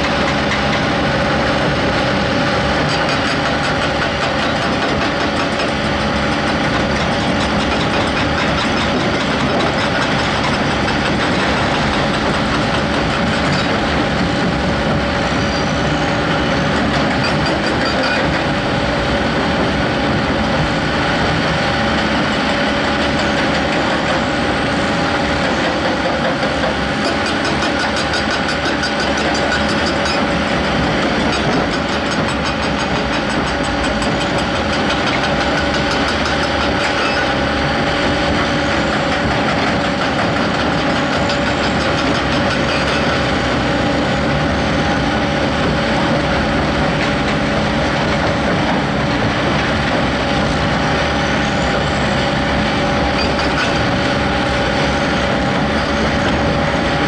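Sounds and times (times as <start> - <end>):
diesel machinery engine drone: 0.0 - 57.0
steady machine whine: 0.0 - 57.0.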